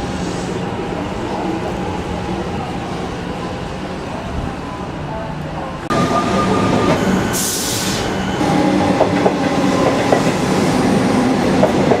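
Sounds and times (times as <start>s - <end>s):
electric train rumble and clatter: 0.0s - 12.0s.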